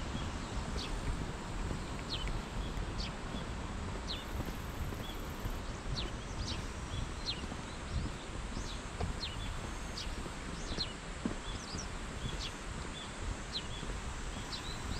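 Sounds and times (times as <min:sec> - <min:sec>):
footsteps on pavement: 0:00.0 - 0:14.9
birds calling with sharp notes: 0:00.1 - 0:14.9.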